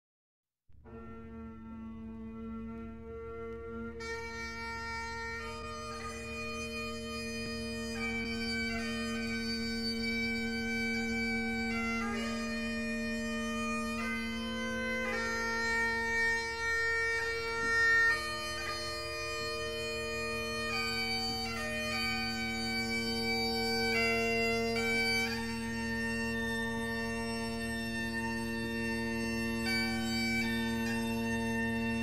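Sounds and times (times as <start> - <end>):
bagpipe melody over drones: 0.8 - 32.0.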